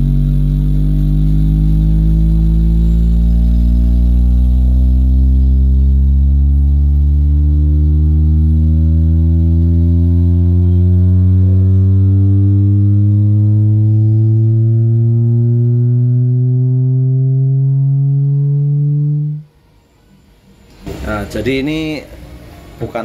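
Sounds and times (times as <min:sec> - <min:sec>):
low frequency sweep tone: 0:00.0 - 0:20.4.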